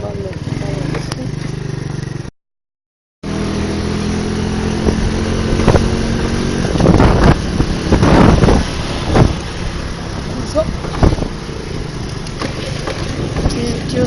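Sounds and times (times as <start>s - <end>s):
motorcycle engine running: 0.0s - 2.3s, 3.2s - 14.0s.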